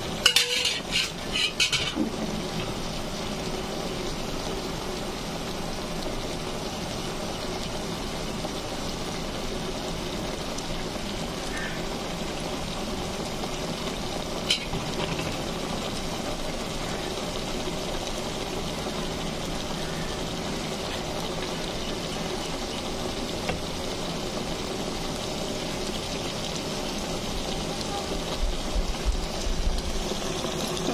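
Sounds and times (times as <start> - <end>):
paste sizzling in oil: 0.0 - 30.9.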